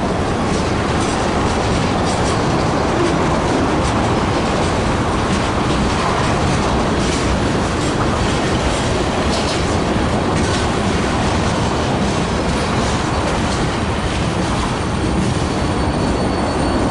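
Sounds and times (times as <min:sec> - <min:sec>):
wheels clicking over rail joints: 0:00.0 - 0:15.9
freight train rumbling: 0:00.0 - 0:16.9.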